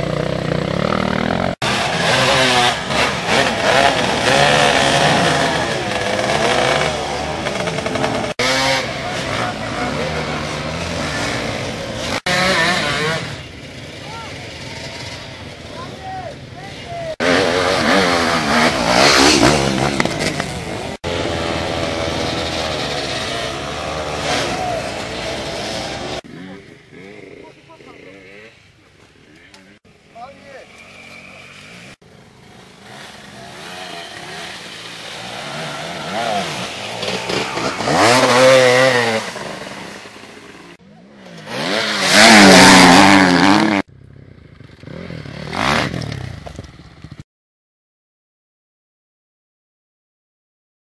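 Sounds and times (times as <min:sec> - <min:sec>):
dirt bike engines revving: 0:00.0 - 0:47.2.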